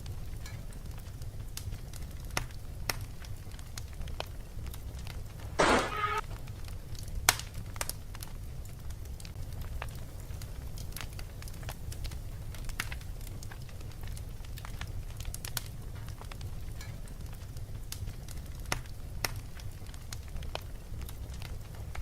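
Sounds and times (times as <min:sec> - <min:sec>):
fireplace crackling: 0:00.0 - 0:22.0.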